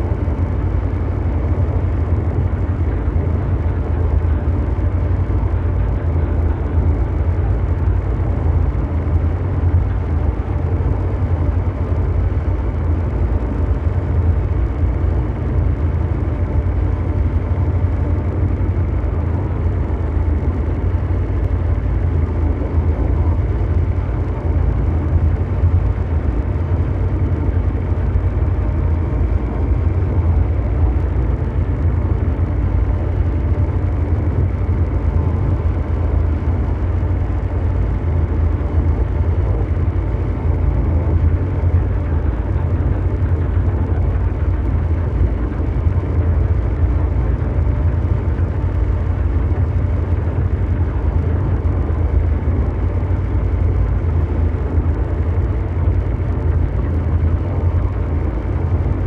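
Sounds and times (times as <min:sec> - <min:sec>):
deep mechanical rumble: 0:00.0 - 0:59.0
faint hum: 0:00.0 - 0:59.0.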